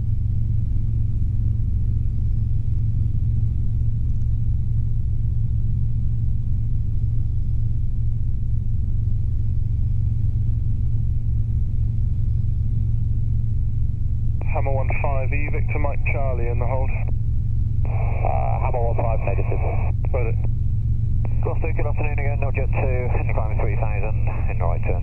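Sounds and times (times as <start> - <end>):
helicopter engine and rotors: 0.0 - 25.0.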